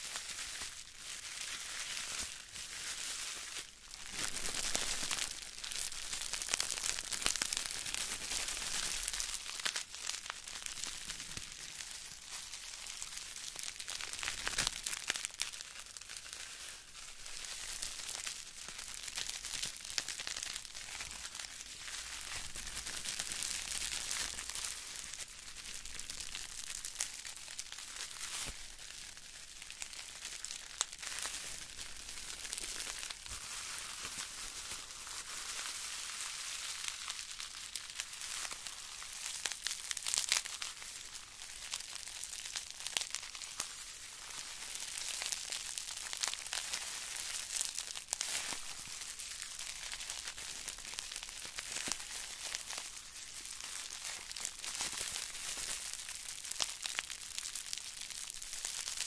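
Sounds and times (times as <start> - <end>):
bubble wrap crinkling in hands: 0.0 - 59.0.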